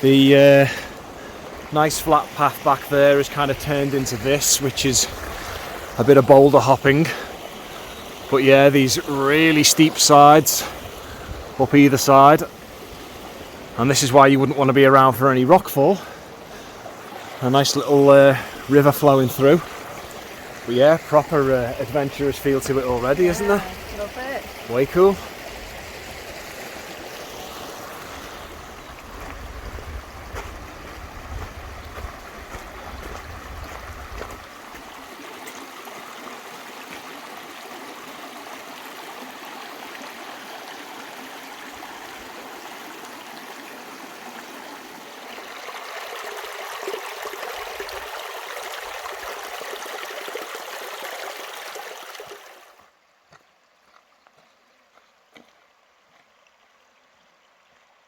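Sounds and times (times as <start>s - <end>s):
river rushing over boulders: 0.0s - 52.9s.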